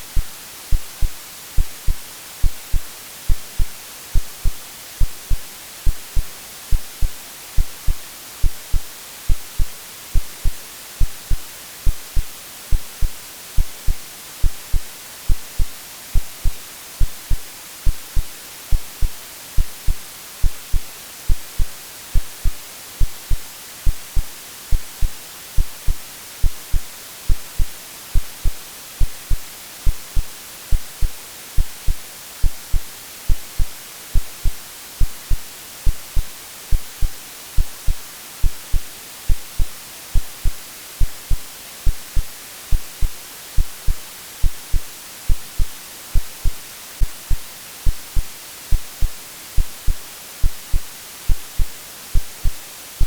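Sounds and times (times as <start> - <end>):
heartbeat thumps: 0.0 - 52.6
white noise hiss: 0.0 - 53.0.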